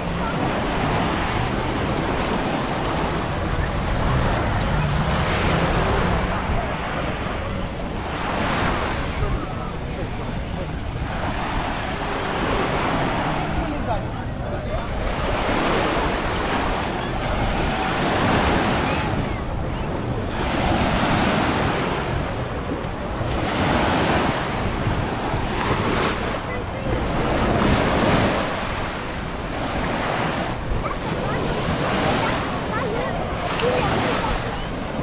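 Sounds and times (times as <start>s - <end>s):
waves washing onto sand: 0.0s - 35.0s
wind buffeting microphone: 0.0s - 35.0s.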